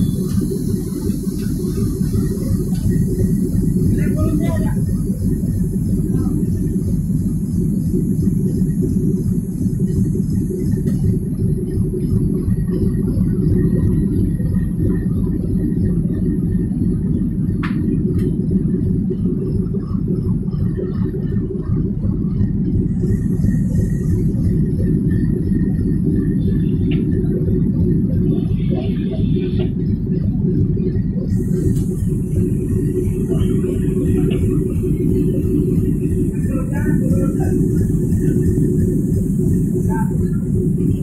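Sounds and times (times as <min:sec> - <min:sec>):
locomotive machinery rumbling: 0:00.0 - 0:41.0.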